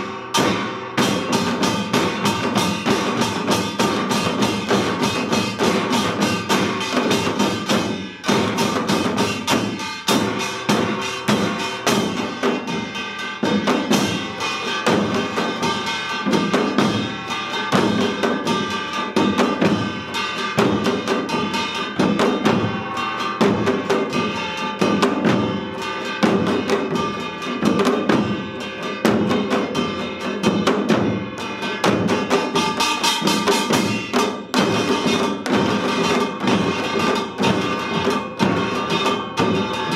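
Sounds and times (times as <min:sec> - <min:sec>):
hourglass drums and barrel drums: 0:00.0 - 0:39.9
metal gongs ringing: 0:00.0 - 0:39.9.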